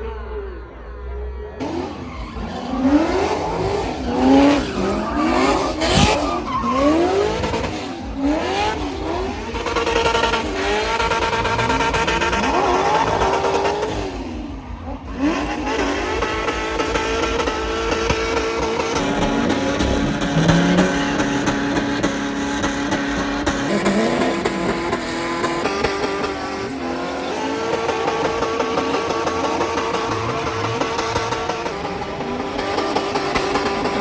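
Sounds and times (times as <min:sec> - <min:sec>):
car engine revving hard: 0:01.6 - 0:34.0
tire squeal: 0:01.6 - 0:34.0.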